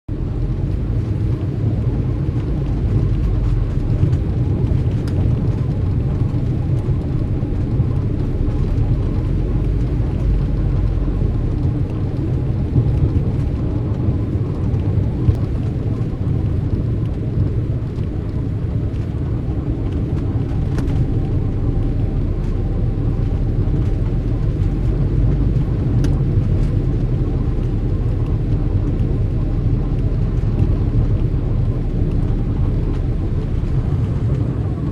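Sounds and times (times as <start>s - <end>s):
traffic rumble: 0.1s - 34.9s.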